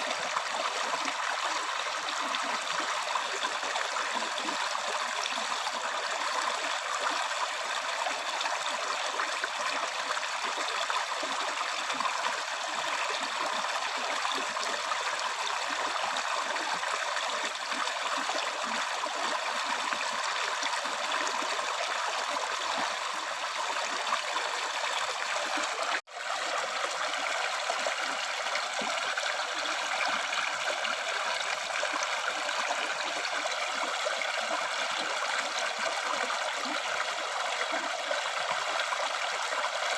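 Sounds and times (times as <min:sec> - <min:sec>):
stream water rushing and trickling: 0:00.0 - 0:39.9.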